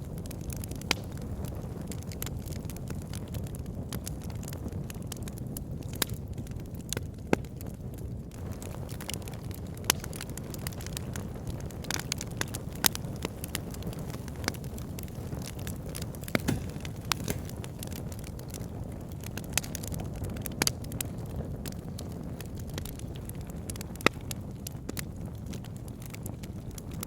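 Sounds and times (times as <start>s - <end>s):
flames rumbling: 0.0s - 27.0s
logs crackling and popping: 0.0s - 27.0s.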